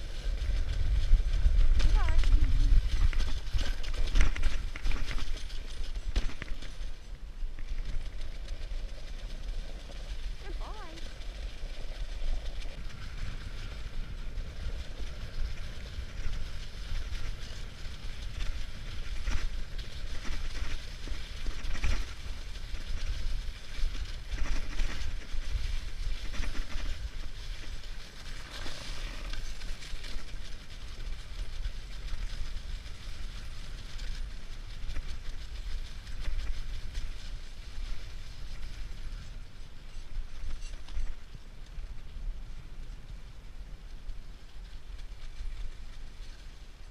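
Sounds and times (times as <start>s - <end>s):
low rumble: 0.0s - 46.9s
sled runners rushing on snow: 0.0s - 46.9s.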